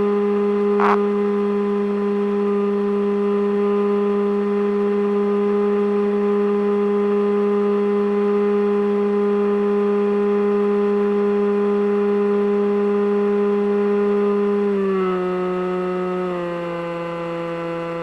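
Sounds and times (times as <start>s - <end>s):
model aircraft motor running: 0.0s - 18.0s.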